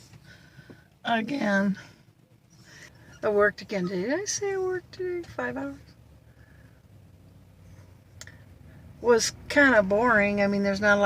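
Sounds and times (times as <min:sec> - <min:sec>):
faint low hum inside car: 0:00.0 - 0:11.0.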